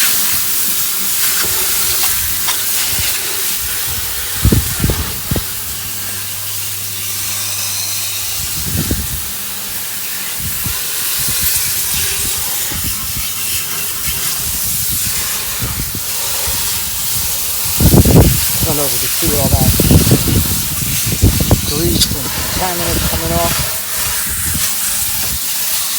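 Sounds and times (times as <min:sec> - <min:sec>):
hose water spraying: 0:00.0 - 0:25.9.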